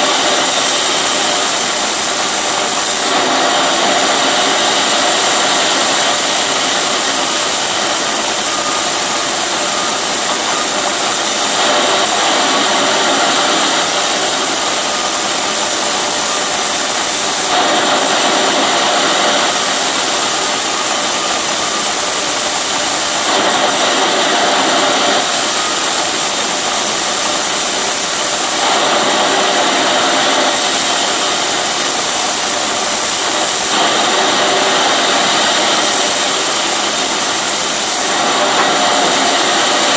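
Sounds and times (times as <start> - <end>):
chainsaw running hard: 0.0 - 39.9.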